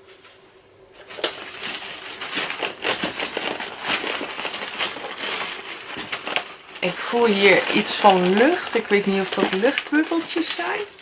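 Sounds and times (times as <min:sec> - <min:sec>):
plastic packaging crinkling: 0:01.0 - 0:11.0.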